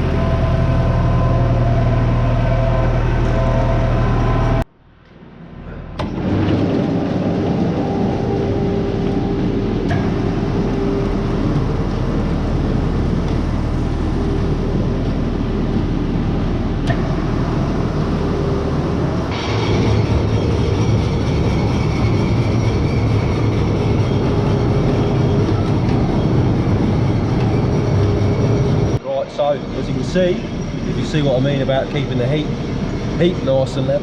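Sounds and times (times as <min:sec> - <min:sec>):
deep machine hum: 0:00.0 - 0:34.0
high-pitched machine whine: 0:00.0 - 0:34.0
machinery rattling: 0:06.0 - 0:34.0.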